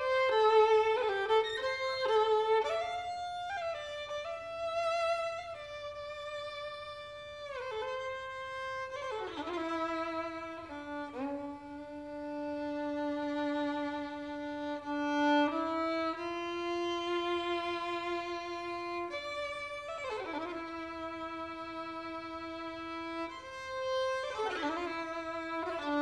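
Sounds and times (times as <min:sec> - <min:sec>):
solo violin slow melody: 0:00.0 - 0:26.0.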